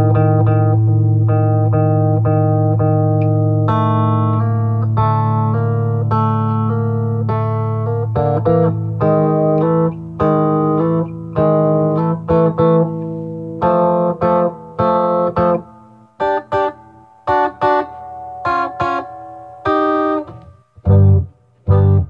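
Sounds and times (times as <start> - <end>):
electric guitar chords: 0.0 - 22.0.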